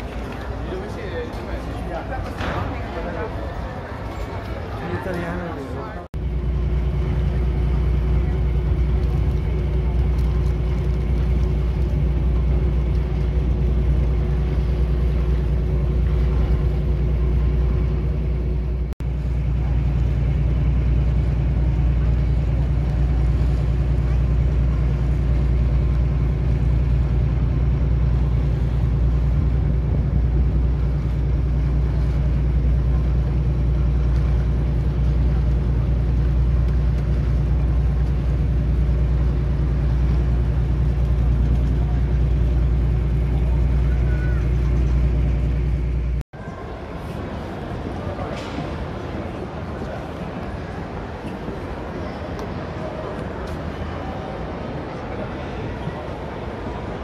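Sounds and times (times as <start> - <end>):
ferry engine low drone: 0.0 - 57.0.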